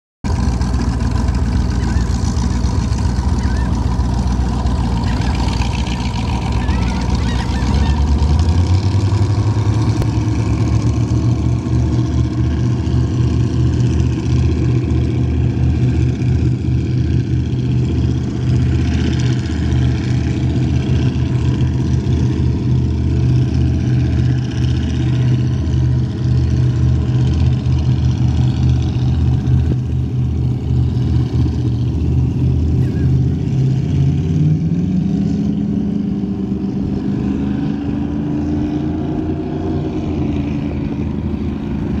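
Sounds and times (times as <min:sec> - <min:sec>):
powerboat engines rumbling: 0:00.2 - 0:42.0.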